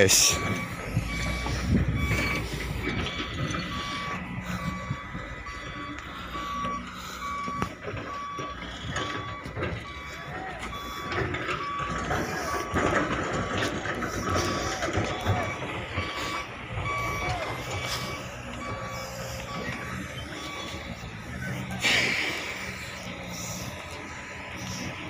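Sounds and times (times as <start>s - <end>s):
diesel engine rumble: 0.0s - 25.0s
reversing alarm beeping: 0.0s - 25.0s.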